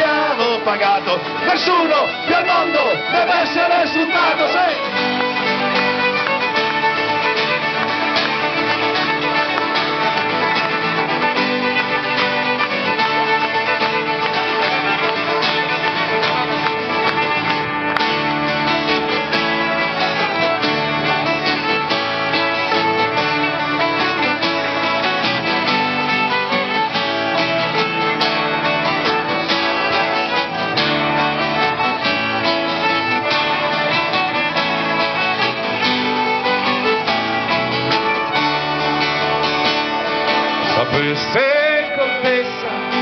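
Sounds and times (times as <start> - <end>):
acoustic guitars: 0.0 - 43.0
fiddle: 0.0 - 43.0.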